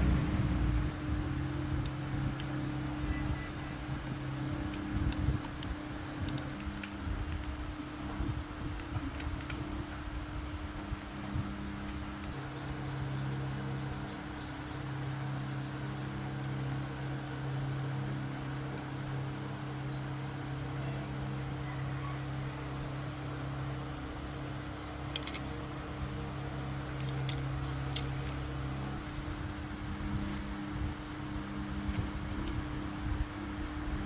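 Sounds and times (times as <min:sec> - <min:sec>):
machine humming low: 0:00.0 - 0:34.0.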